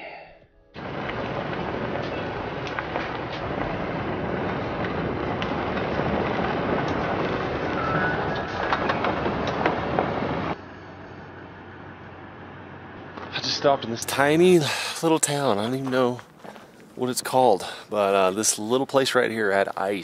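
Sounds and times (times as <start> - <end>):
vehicle tyres on dirt road: 0.8 - 20.0.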